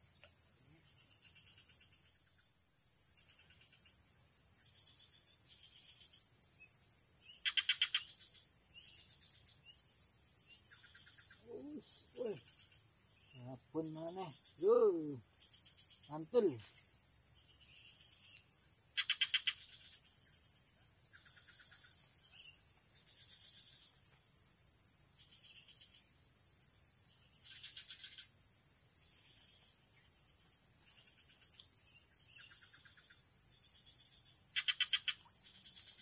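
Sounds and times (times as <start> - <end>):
insects droning: 0.0 - 36.0
pulsed insect calls: 0.0 - 36.0.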